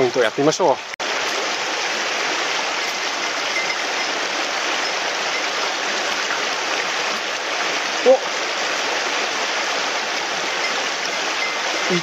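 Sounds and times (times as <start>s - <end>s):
stream running over stones: 0.0s - 12.0s.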